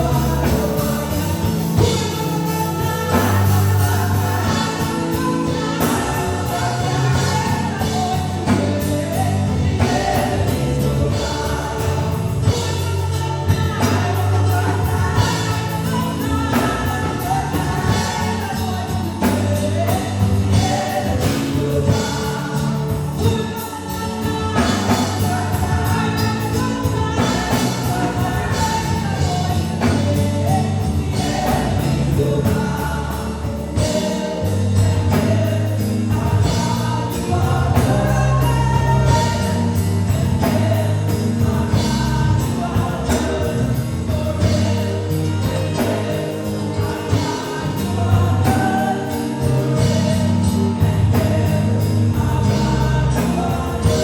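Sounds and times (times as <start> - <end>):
band playing gospel music: 0.0 - 54.0
group of singers: 0.0 - 54.0
steady drum beat: 0.0 - 54.0.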